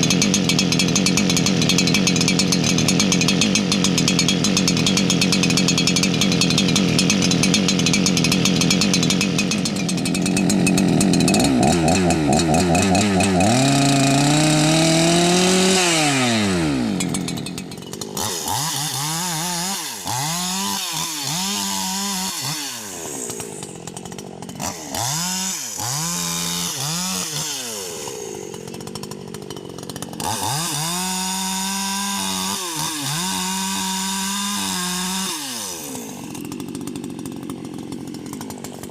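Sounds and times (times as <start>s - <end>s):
chainsaw cutting wood: 0.0s - 38.9s
chainsaw idling and revving: 0.0s - 38.9s.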